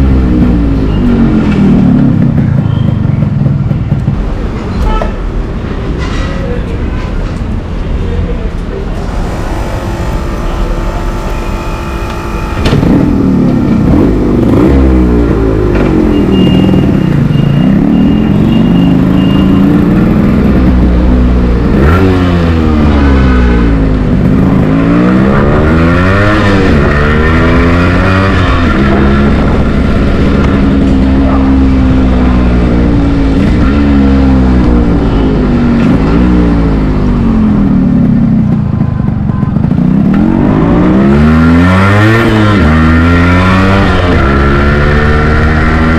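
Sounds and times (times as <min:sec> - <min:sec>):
motorcycle engine revving: 0:00.0 - 0:04.7, 0:08.9 - 0:45.9.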